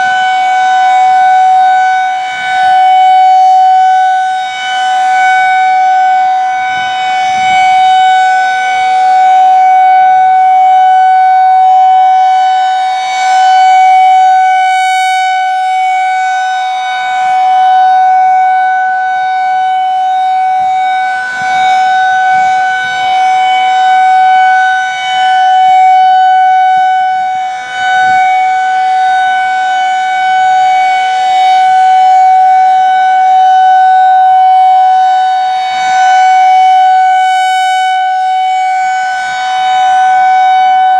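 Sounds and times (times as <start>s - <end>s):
rotating warning siren tone: 0.0s - 40.9s.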